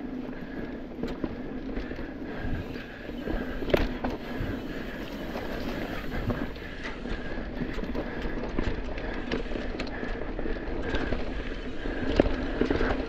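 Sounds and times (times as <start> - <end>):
bike rattling over bumps: 0.0 - 13.0
bike tyres rolling over dirt: 0.0 - 13.0.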